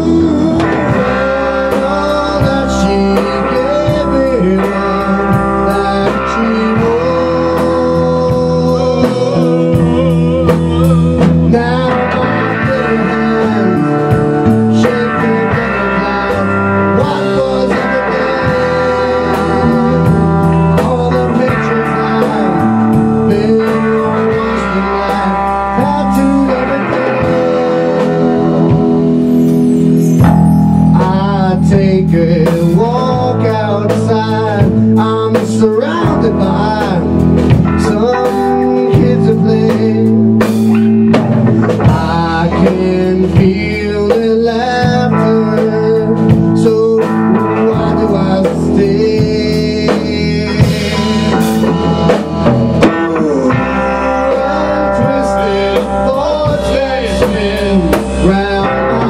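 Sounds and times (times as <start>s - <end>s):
drum kit: 0.0s - 59.0s
electric bass: 0.0s - 59.0s
electric guitar: 0.0s - 59.0s
rock band playing: 0.0s - 59.0s.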